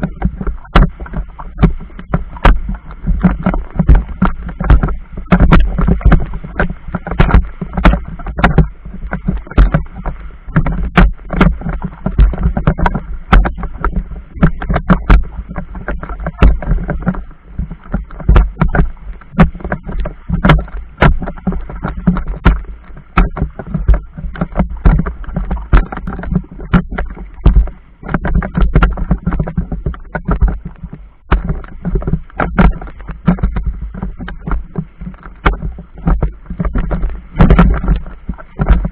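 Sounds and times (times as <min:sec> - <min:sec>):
water slapping against boat hull: 0:00.0 - 0:38.9.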